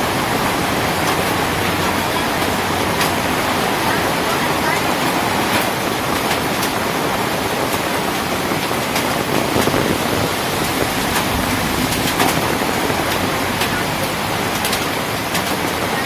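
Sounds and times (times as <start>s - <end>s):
heavy rain pouring: 0.0s - 16.0s
raindrops ticking close by: 0.0s - 16.0s.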